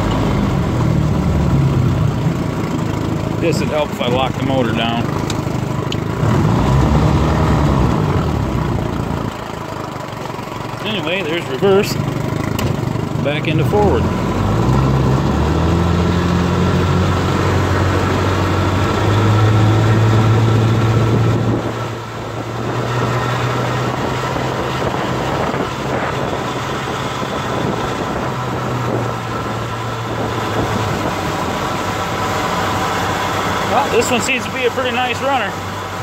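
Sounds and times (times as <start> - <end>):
outboard motor running: 0.0 - 36.0.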